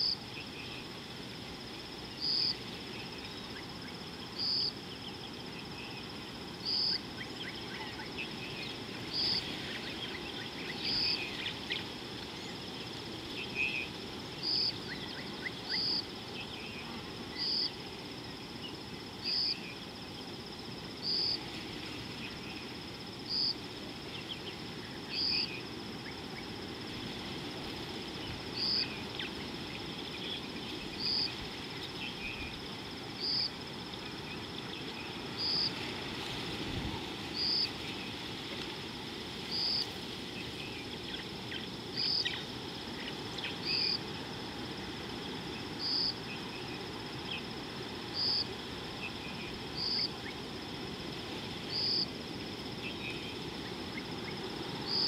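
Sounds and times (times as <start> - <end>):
insect shrill chirp: 0.0 - 55.0
insects buzzing: 0.0 - 55.0
low background noise: 0.0 - 55.0.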